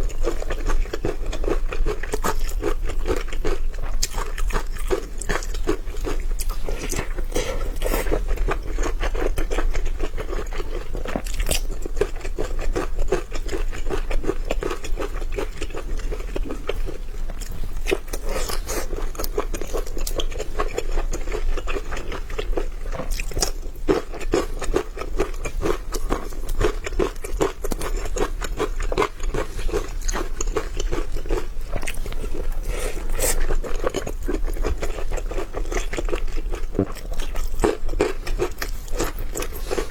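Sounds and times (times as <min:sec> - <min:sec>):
chewing with wet mouth clicks: 0:00.0 - 0:39.9.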